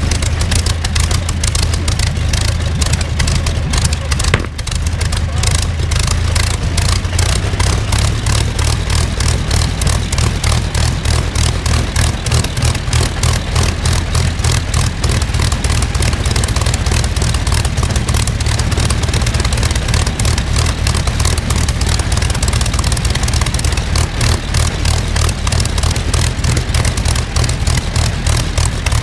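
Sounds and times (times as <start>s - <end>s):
aero engine running: 0.0s - 29.0s.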